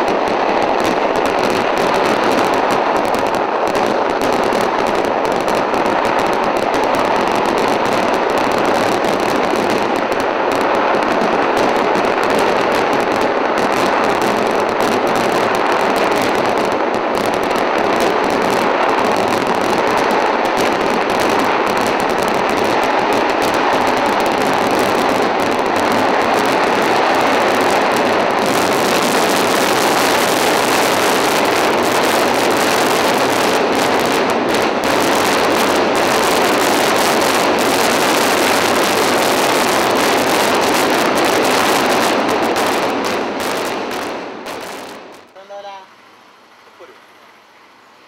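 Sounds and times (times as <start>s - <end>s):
fireworks crackling explosions: 0.0s - 48.0s.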